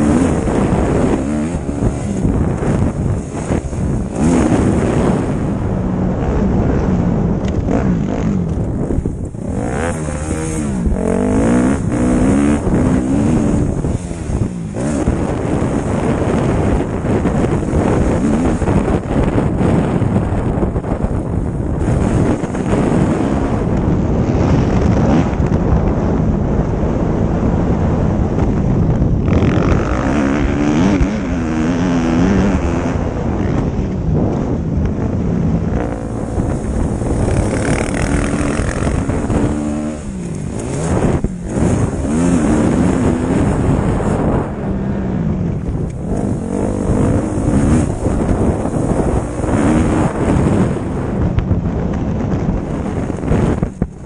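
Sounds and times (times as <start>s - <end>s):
motocross bike engine revving: 0.0s - 26.2s, 29.2s - 51.3s
wind rushing over microphone: 0.0s - 54.0s.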